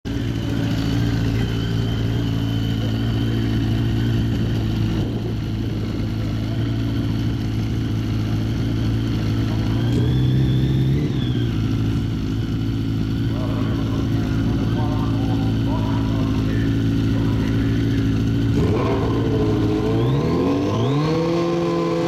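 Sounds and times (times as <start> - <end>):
motorcycle engine idling: 0.0 - 21.2.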